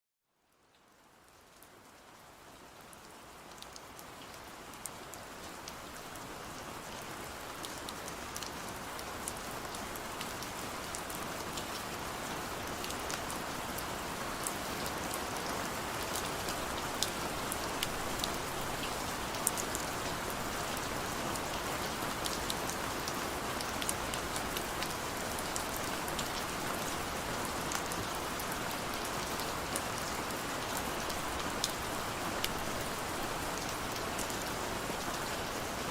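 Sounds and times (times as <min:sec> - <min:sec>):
heavy rain falling: 0:04.5 - 0:35.9.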